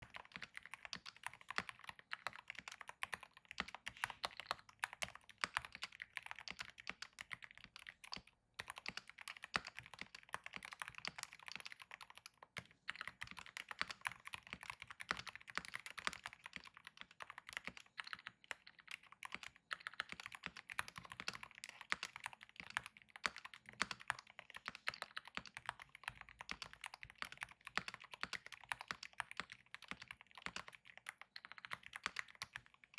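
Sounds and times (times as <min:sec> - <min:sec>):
dampened mechanical keyboard typing: 0:00.0 - 0:32.9.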